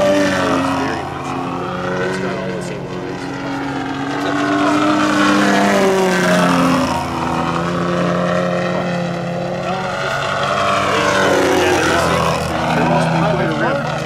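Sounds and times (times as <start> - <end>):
model plane engine in flight: 0.0 - 14.0.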